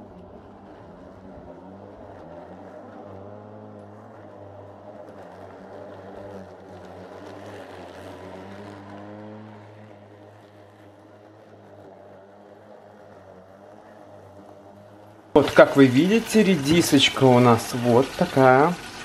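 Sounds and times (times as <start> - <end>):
electric lawn mower motor hum: 0.0 - 19.0
mower cutting grass: 0.0 - 19.0.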